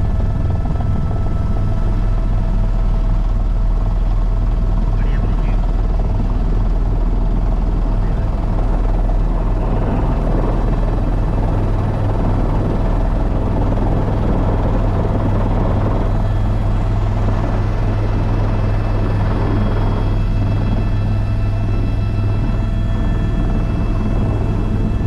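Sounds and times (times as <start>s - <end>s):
helicopter rotor drone: 0.0s - 25.0s
high engine whine: 0.0s - 25.0s.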